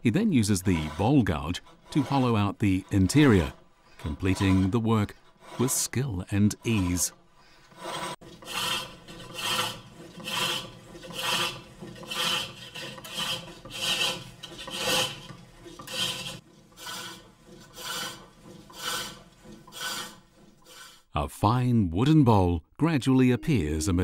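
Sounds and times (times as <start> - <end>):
gouge scraping wood on lathe: 0.1 - 21.1.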